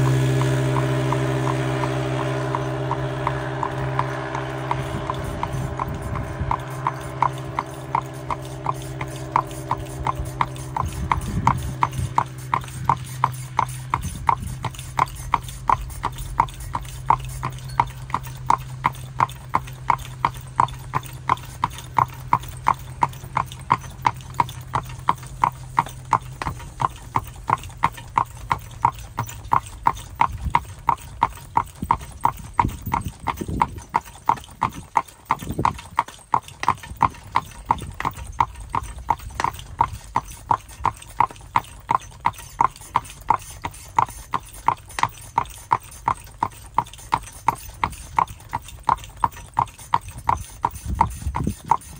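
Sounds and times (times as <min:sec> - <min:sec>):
horse hooves clip-clopping on road: 0:00.0 - 0:51.9.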